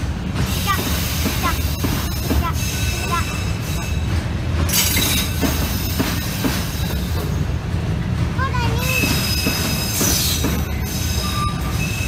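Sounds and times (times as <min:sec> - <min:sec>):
freight train rumble: 0:00.0 - 0:12.0.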